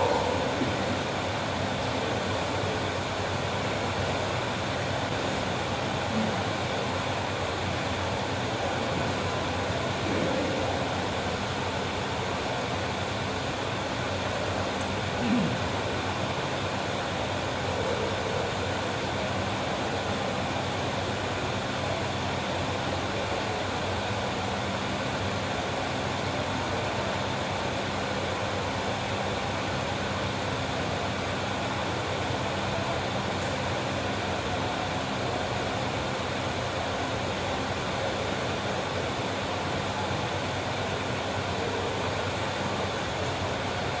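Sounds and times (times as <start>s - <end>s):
background hum and hiss: 0.0s - 44.0s.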